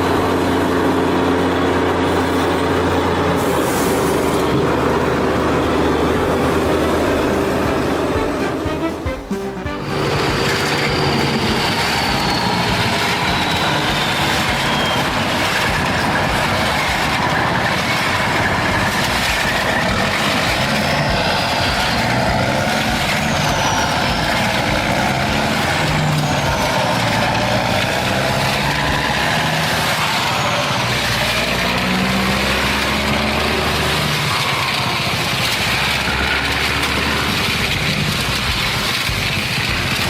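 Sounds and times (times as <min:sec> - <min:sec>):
heavy farm vehicle engine: 0:00.0 - 0:40.0
high-pitched squeals: 0:00.0 - 0:40.0
machinery noise: 0:00.0 - 0:40.0.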